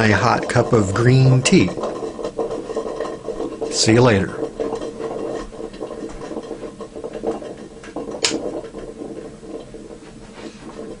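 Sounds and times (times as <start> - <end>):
handling ticks and rubs: 0.0 - 11.0
steady hum: 0.0 - 11.0.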